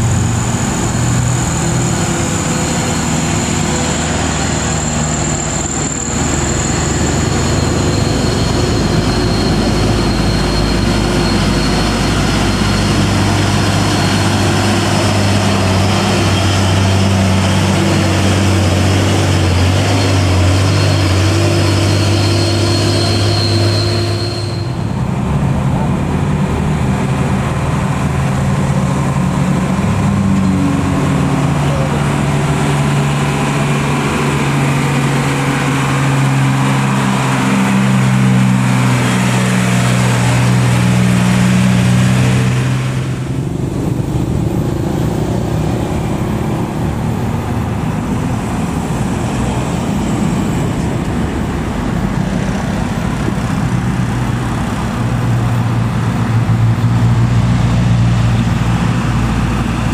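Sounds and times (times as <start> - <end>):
diesel truck engine drone: 0.0 - 59.9
road and traffic rumble: 0.0 - 59.9
second diesel truck engine: 0.0 - 59.9.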